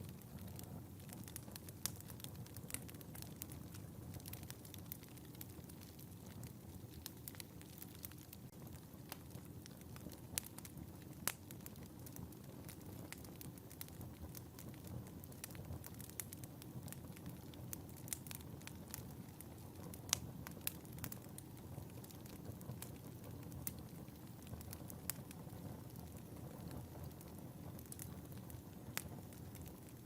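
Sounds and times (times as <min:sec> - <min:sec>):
fire crackling and popping: 0:00.0 - 0:30.0
fire flames rumbling: 0:00.0 - 0:30.0.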